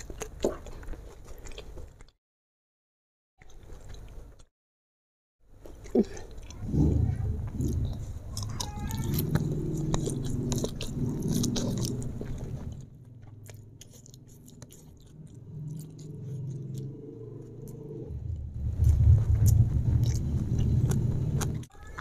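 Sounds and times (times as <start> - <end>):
chewing and wet mouth sounds: 0.0 - 2.2, 3.4 - 4.5, 5.5 - 22.0.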